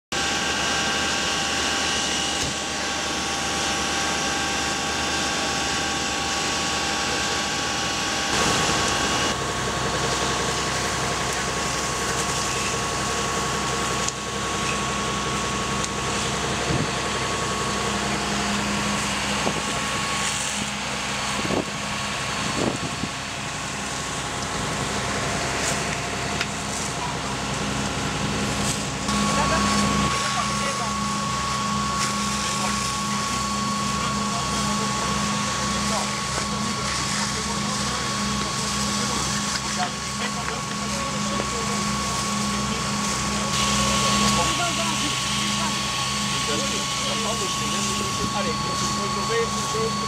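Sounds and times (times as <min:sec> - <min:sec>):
fire engine pumps droning: 0:00.1 - 0:50.0.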